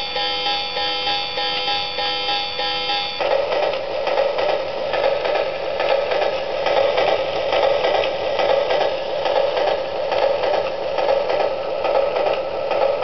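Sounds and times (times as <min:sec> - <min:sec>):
electronic steam locomotive chuffing: 0:00.0 - 0:13.0.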